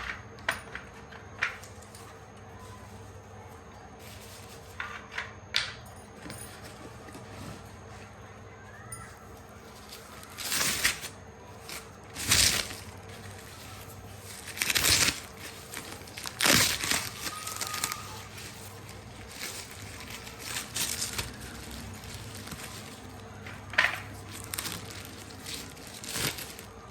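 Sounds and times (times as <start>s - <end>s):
packaging crinkling and rustling: 0.0s - 5.6s, 6.5s - 26.9s.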